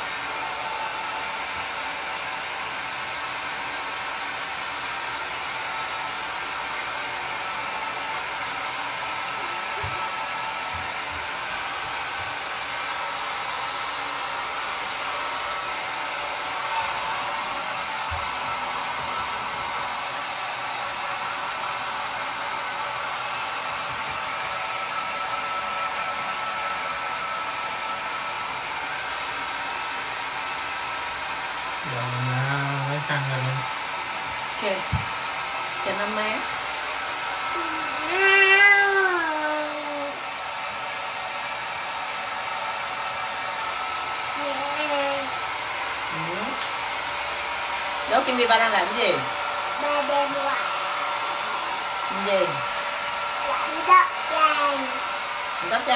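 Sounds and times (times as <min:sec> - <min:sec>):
hair dryer blowing: 0:00.0 - 0:55.9.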